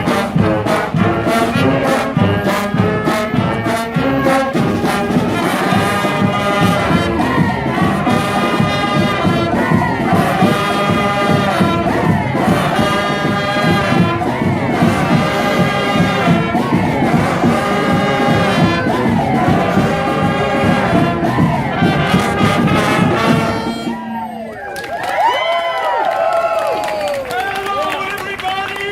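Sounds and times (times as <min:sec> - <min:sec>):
brass band playing: 0:00.0 - 0:24.7
crowd murmur: 0:00.0 - 0:28.9.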